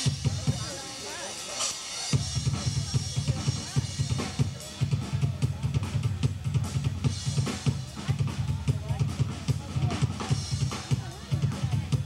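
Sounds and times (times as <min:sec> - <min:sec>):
bass drum beat: 0:00.0 - 0:01.3, 0:02.1 - 0:12.0.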